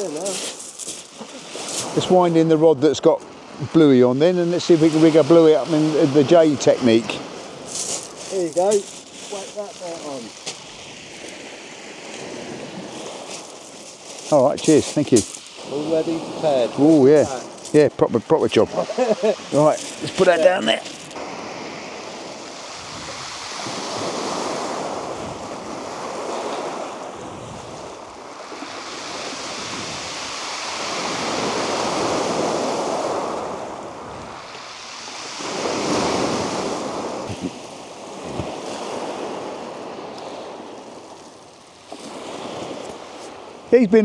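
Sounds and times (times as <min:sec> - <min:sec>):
waves breaking on shingle beach: 0:00.0 - 0:44.0.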